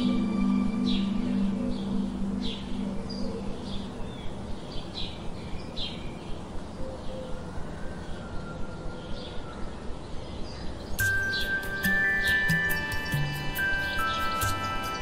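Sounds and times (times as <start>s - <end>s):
bird chirps: 0.0s - 15.0s
steady background hiss: 0.0s - 15.0s.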